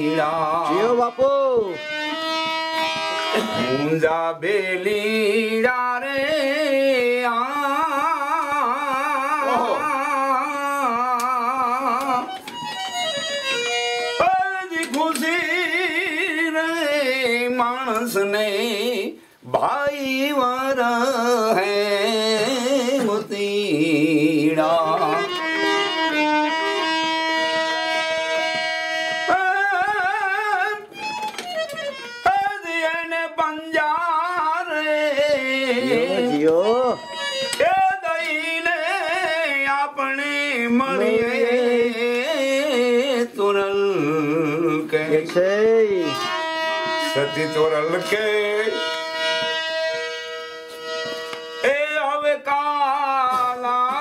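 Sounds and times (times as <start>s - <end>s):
devotional music melody: 0.0s - 54.0s
harmonium: 0.0s - 54.0s.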